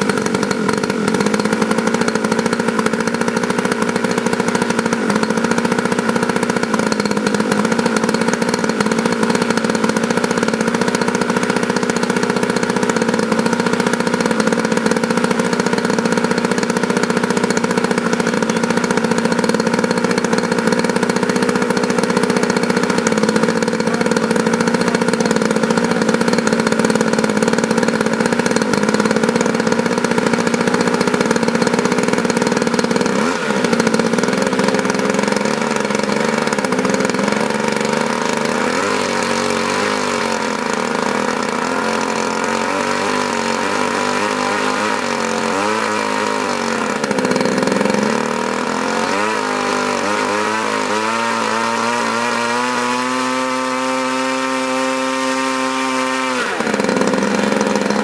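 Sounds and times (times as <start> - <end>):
two-stroke model engine running: 0.0 - 58.0.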